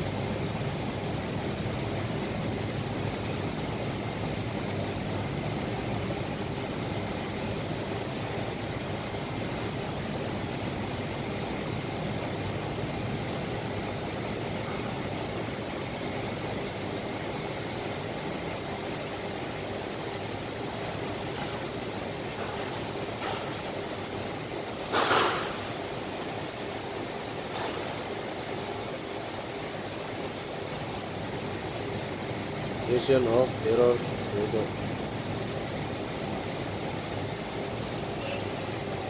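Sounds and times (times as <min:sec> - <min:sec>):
machinery hum and hiss: 0:00.0 - 0:39.0.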